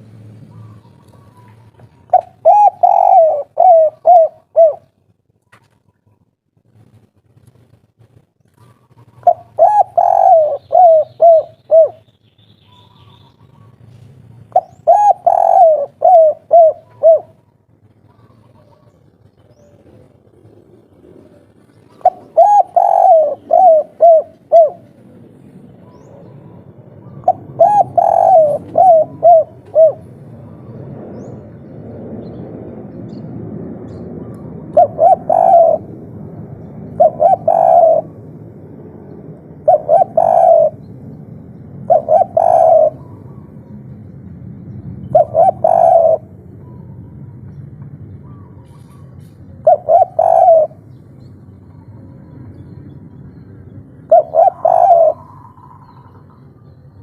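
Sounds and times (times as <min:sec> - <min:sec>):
dove cooing: 0:00.0 - 0:06.2, 0:08.5 - 0:12.1, 0:12.7 - 0:31.8, 0:34.2 - 0:44.0, 0:45.0 - 0:47.3, 0:48.1 - 0:53.2, 0:53.8 - 0:57.0.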